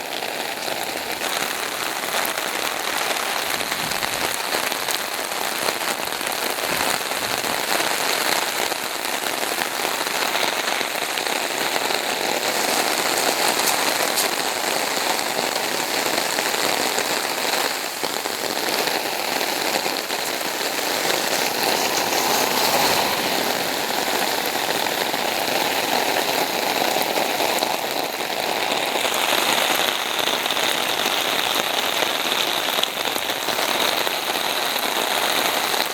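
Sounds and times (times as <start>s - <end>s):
torrential rain pouring: 0.0s - 35.9s.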